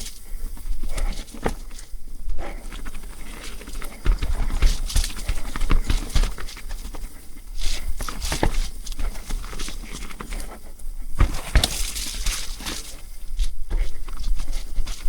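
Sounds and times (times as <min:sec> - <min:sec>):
bike tyres rolling on rock: 0:00.0 - 0:15.0
bike knocking and rattling: 0:02.5 - 0:15.0.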